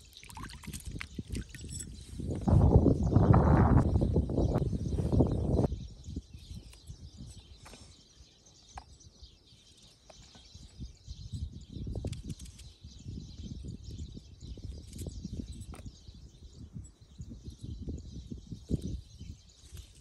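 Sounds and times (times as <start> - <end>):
birds chirping faintly: 0.0 - 20.0.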